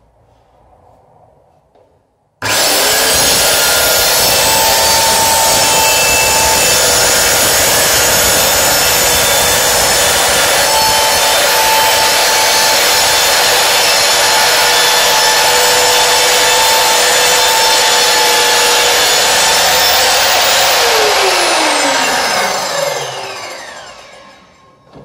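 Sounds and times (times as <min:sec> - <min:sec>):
circular saw cutting: 0:02.4 - 0:24.8.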